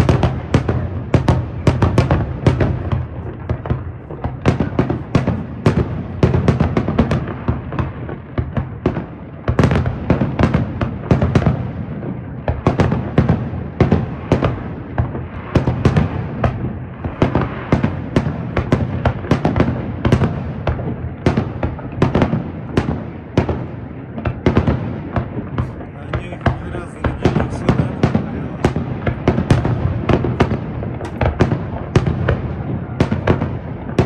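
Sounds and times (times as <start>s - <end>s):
fireworks bursting with sharp bangs: 0.0s - 34.0s.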